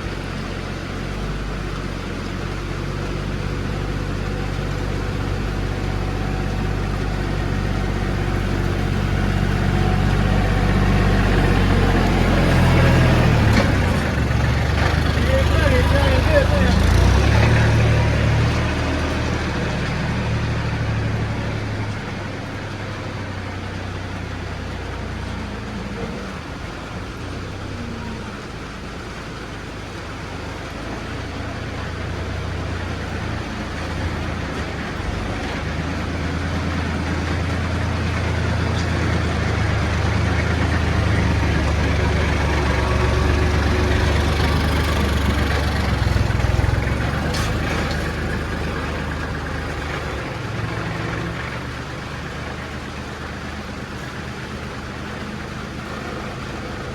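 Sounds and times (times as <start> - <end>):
vehicle engine humming: 0.0 - 56.9.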